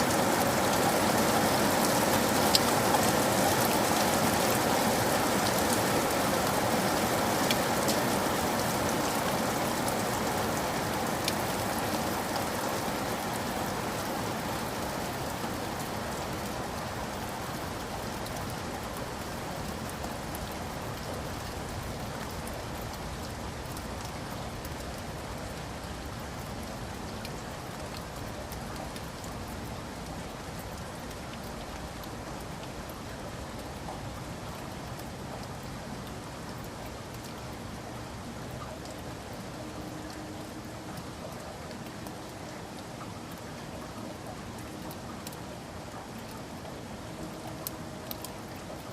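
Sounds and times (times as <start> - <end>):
sharp raindrop ticks: 0.0 - 48.9
steady rain falling: 0.0 - 48.9.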